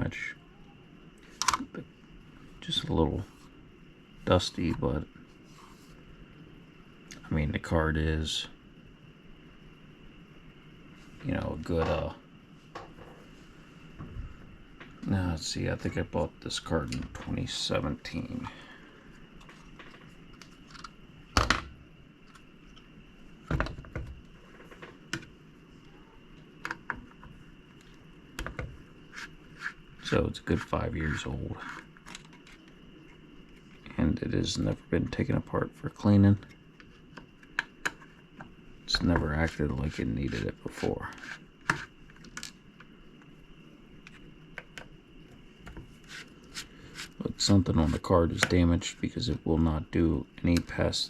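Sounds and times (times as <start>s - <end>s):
faint high-pitched whine: 0.0s - 51.0s
faint steady background hum: 0.0s - 51.0s.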